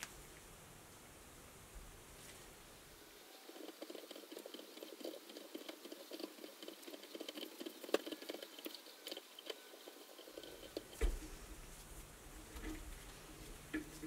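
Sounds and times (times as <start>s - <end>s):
faint clicking and creaking: 2.2s - 14.0s.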